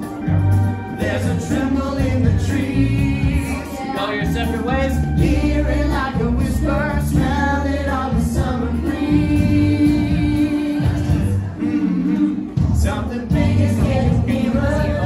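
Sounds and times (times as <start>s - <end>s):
backing music: 0.0s - 15.0s
group of voices singing: 0.0s - 15.0s.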